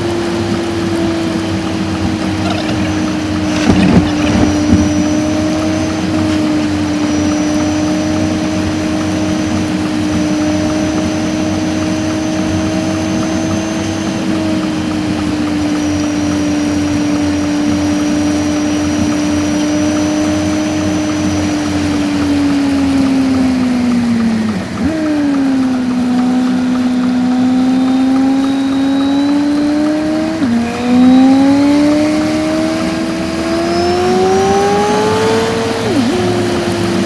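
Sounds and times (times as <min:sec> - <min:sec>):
sped-up car engine drone: 0:00.0 - 0:37.0.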